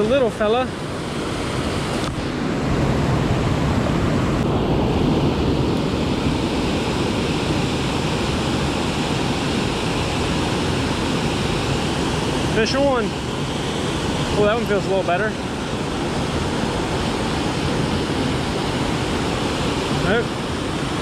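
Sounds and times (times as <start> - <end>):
river water rushing over spillway: 0.0 - 21.0.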